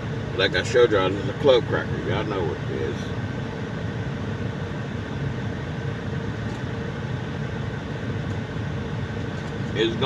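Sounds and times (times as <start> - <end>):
faint constant hum: 0.0 - 10.0
low mechanical drone: 0.0 - 10.0.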